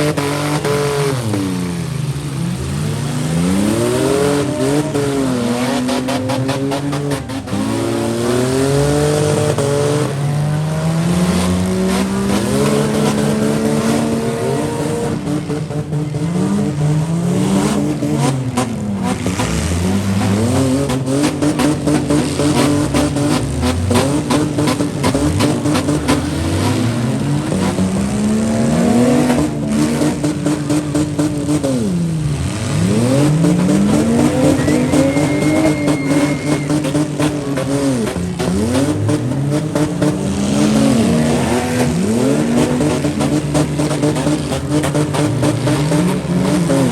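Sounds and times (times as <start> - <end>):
engines revving: 0.0 - 46.9.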